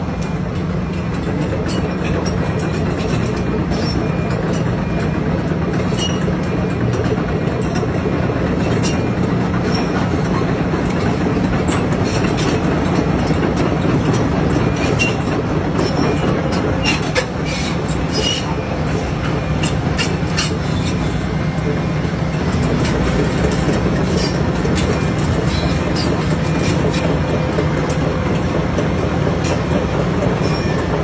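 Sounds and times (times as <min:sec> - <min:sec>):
diesel machinery running: 0:00.0 - 0:31.0
metallic clicks and clanks: 0:00.2 - 0:31.0.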